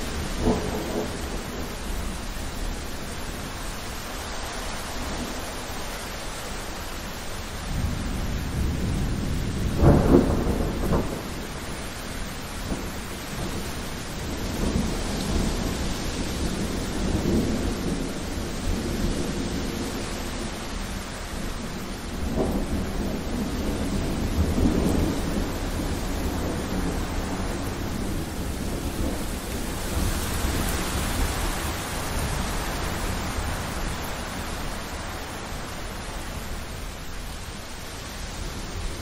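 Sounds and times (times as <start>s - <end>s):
thunder rumble: 0.0s - 5.4s, 7.6s - 37.0s
heavy rain pouring: 0.0s - 39.0s.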